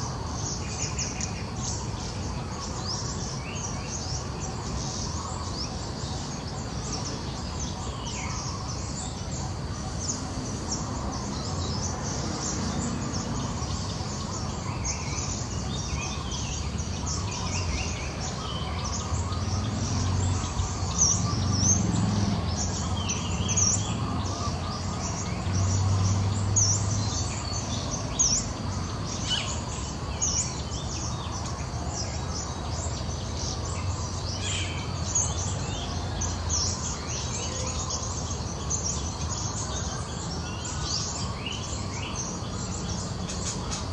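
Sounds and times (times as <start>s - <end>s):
birds chirping: 0.1s - 43.9s.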